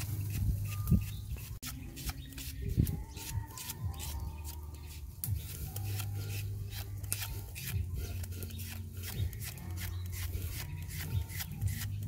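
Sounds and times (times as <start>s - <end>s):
onion slicing on blade slicer: 0.0s - 12.0s.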